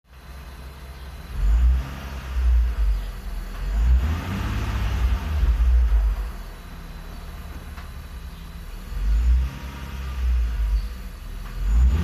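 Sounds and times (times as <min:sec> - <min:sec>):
engine whine: 0:00.1 - 0:12.0
car engine revving: 0:01.2 - 0:12.0.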